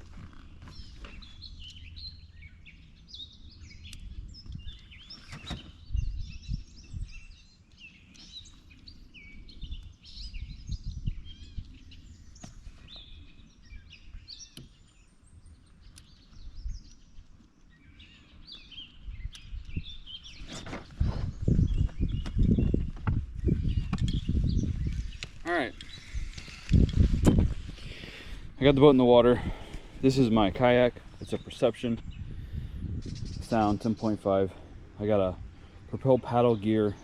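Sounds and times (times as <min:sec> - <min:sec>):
birds singing: 0:00.0 - 0:37.0.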